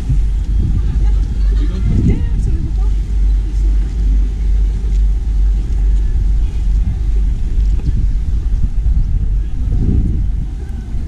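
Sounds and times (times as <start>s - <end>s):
speedboat engines rumbling: 0.0s - 11.0s
wind on microphone: 0.0s - 11.0s.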